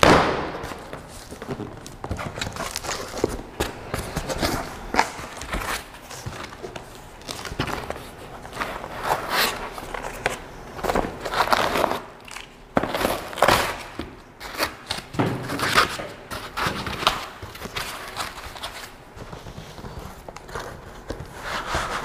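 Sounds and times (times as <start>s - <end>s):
packing materials rustling: 0.0s - 22.0s.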